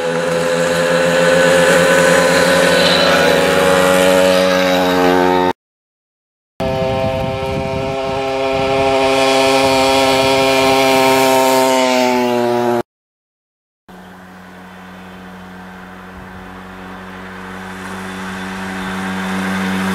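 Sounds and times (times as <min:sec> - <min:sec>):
moped engines buzzing: 0:00.0 - 0:05.6, 0:06.6 - 0:12.8, 0:13.9 - 0:19.9.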